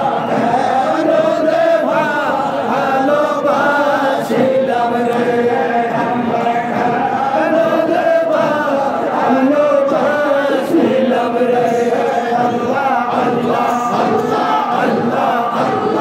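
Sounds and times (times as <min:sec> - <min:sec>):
men chanting in chorus: 0:00.0 - 0:16.0.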